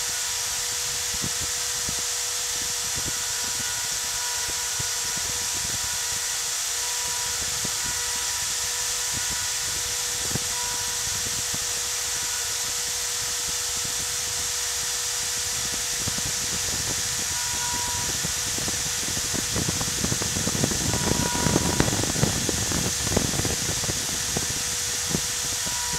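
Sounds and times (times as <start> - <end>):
axis motor tones: 0.0 - 25.9
cnc spindle whine: 0.0 - 25.9.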